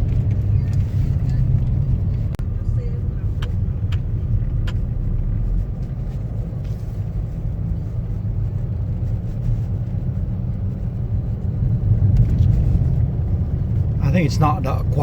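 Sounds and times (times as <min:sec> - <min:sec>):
low road rumble: 0:00.0 - 0:15.0.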